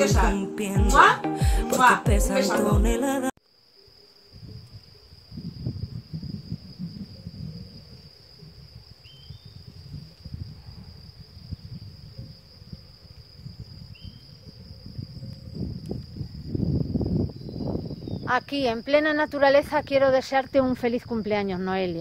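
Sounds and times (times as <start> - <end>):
high insect trill: 3.4 - 22.0.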